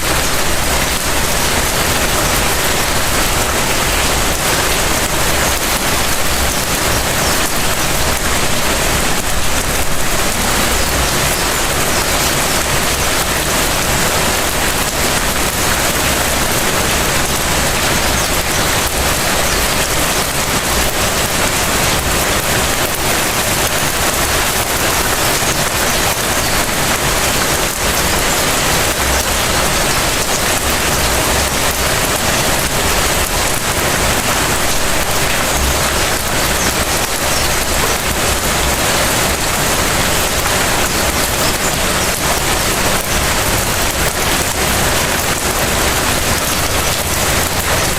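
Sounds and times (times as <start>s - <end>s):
light rain pattering: 0.0s - 47.9s.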